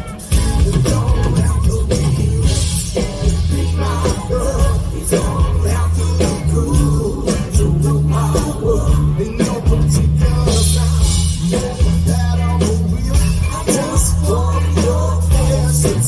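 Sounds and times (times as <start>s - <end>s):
upbeat music with bass line: 0.0s - 16.0s.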